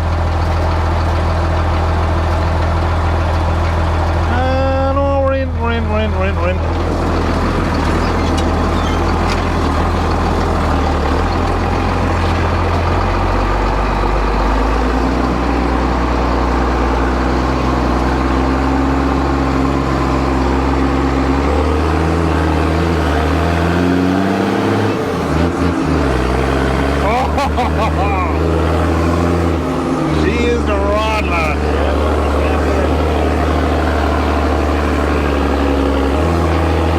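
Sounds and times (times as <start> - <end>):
heavy vehicle engine revving: 0.0 - 36.9.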